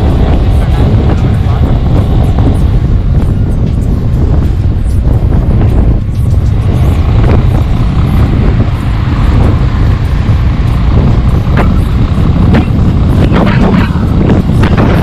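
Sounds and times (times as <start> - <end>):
motorcycle engine: 0.0 - 15.0
wind rush buffeting microphone: 0.0 - 15.0.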